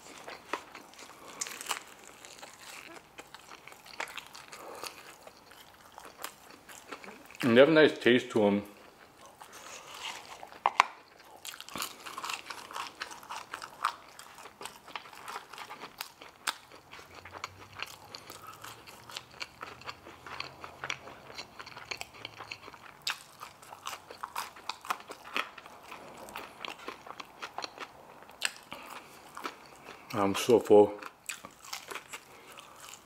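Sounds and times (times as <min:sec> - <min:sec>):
man chewing crispy food: 0:00.0 - 0:07.8, 0:08.6 - 0:33.0.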